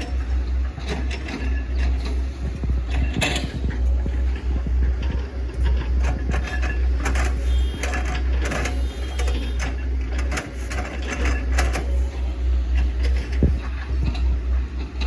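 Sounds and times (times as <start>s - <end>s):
excavator diesel engine drone: 0.0s - 15.0s.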